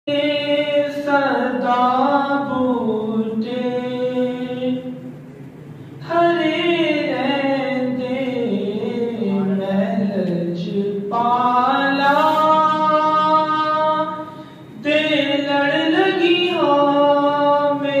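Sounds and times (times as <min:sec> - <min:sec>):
man singing into a microphone: 0:00.1 - 0:05.0, 0:06.0 - 0:18.0.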